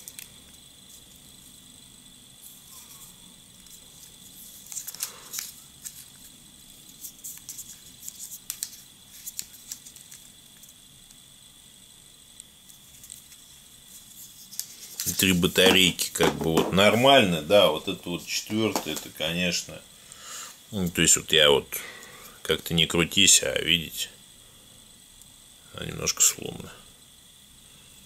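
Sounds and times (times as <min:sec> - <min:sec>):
faint high-pitched whine: 0:00.0 - 0:28.0.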